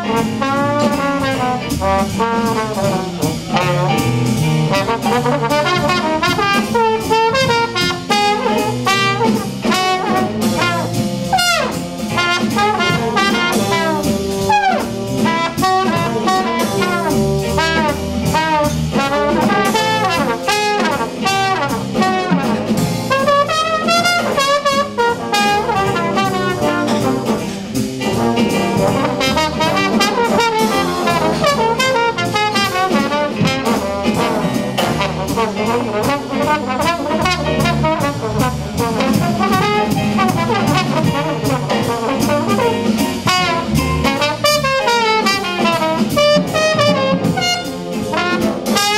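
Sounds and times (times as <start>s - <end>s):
trombone ensemble playing jazz: 0.0s - 48.9s
trombone solo: 0.0s - 48.9s.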